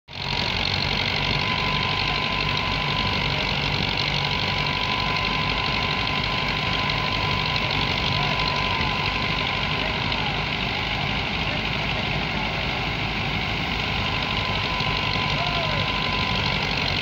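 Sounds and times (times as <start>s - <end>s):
thin steady whine: 0.1s - 17.0s
tractor diesel engine running: 0.1s - 17.0s.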